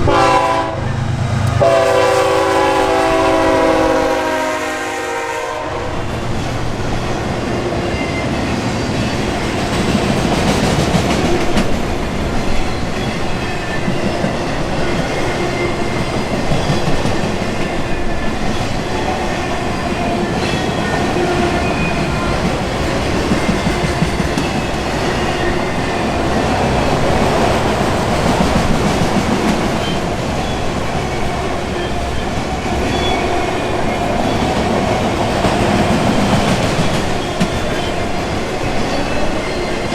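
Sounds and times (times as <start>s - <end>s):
freight train rumbling past: 0.0s - 39.9s
wheels clacking over rail joints: 7.9s - 39.9s.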